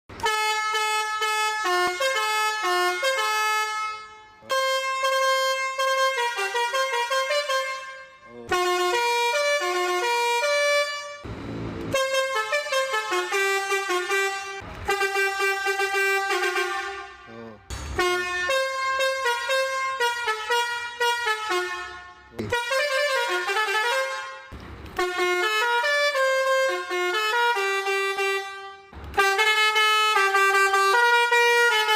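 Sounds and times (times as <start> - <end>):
musical air horn melodies: 0.1 - 31.9.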